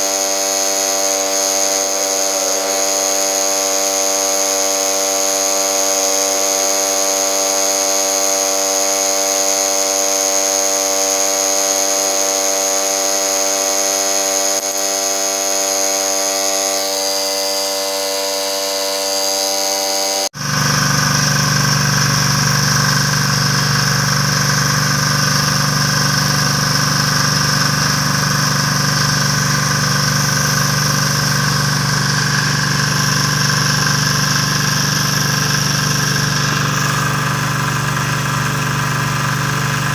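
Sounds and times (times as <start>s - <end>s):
diesel generator engine running: 0.0s - 39.9s
steady machine hum: 0.0s - 39.9s.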